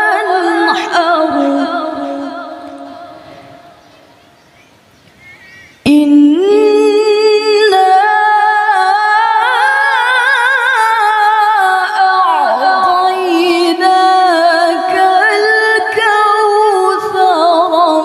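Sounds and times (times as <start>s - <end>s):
woman reciting melodically: 0.0s - 4.4s, 5.6s - 18.0s.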